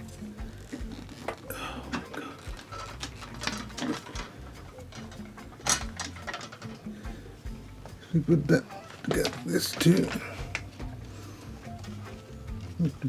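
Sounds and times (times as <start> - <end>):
frame rods clicking and knocking: 0.0 - 13.0.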